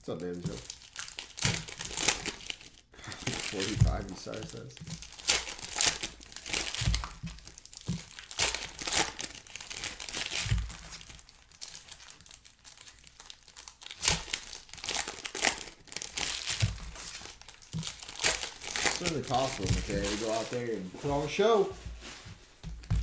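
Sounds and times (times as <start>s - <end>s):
plastic wrappers crinkling: 0.0s - 23.0s.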